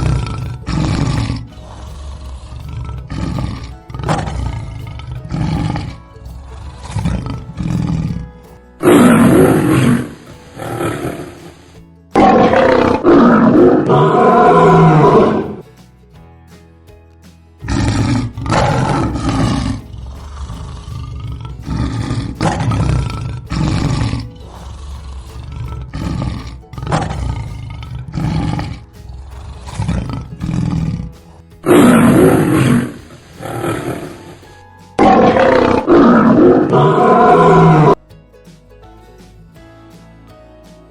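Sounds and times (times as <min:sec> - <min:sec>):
lion roaring: 0:00.0 - 0:15.6, 0:17.6 - 0:38.0
background music: 0:00.0 - 0:40.9.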